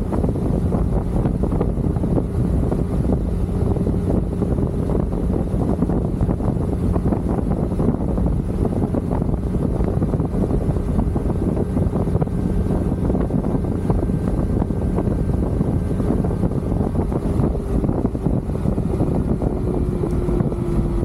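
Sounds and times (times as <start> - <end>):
motorcycle engine drone: 0.0 - 21.0
wind rush on microphone: 0.0 - 21.0.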